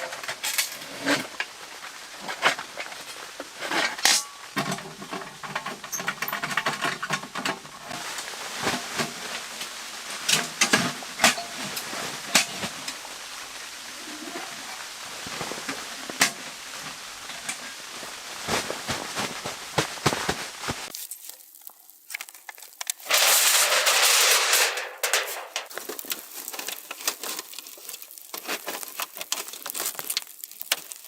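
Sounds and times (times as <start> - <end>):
steady hiss: 0.0 - 29.2.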